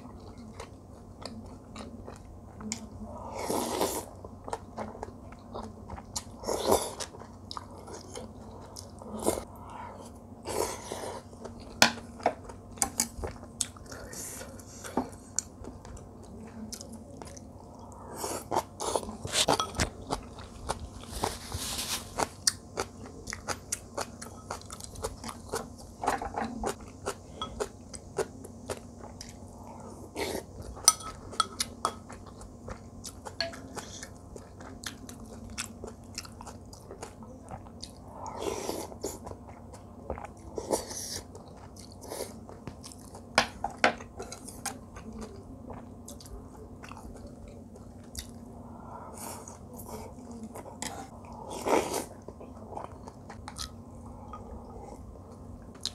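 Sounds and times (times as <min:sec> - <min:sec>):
person chewing and crunching food: 0:00.0 - 0:55.9.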